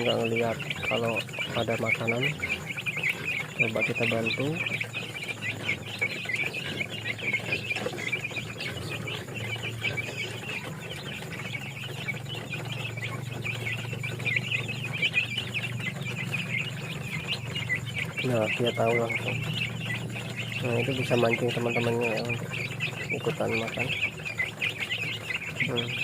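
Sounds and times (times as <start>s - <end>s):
chicks peeping: 0.0s - 26.0s
low steady hum: 0.0s - 26.0s.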